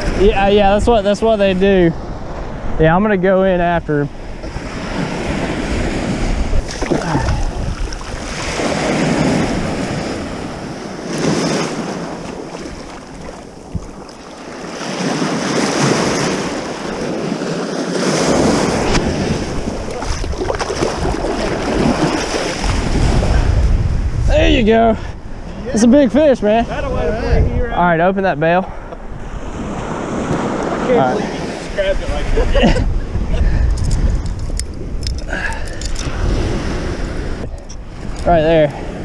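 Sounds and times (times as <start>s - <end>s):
ocean surf washing: 0.0s - 39.0s
wind buffeting microphone: 0.0s - 39.0s.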